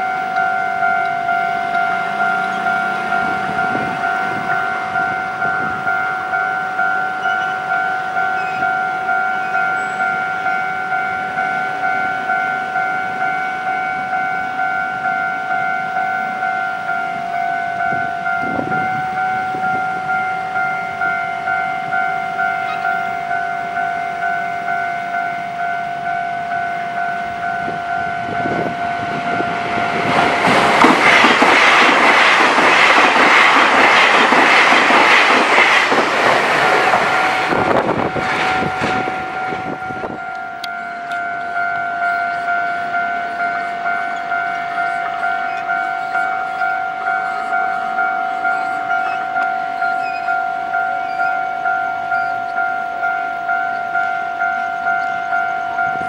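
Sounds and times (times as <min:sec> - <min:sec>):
level crossing bell ringing: 0:00.0 - 0:30.5, 0:37.0 - 0:56.0
train passing at speed: 0:00.0 - 0:56.0.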